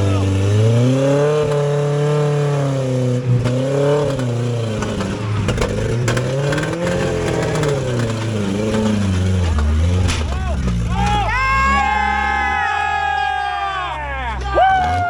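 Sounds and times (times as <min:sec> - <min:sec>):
engine revving under load: 0:00.0 - 0:13.3.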